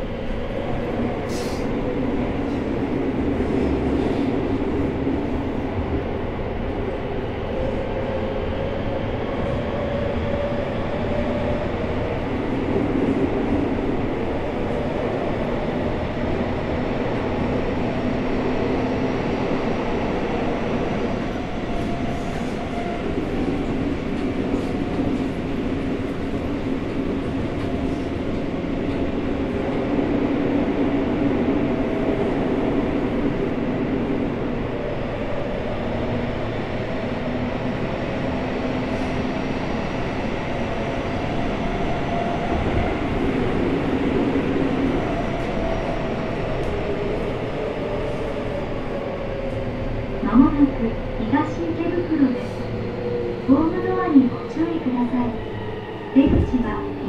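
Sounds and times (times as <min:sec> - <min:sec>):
train running interior rumble: 0:00.0 - 0:57.0.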